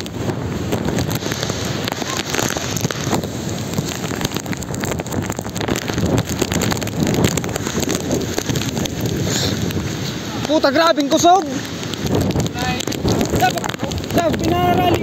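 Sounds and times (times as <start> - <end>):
heavy rain: 0.0 - 15.0
strong wind gusting: 0.0 - 15.0.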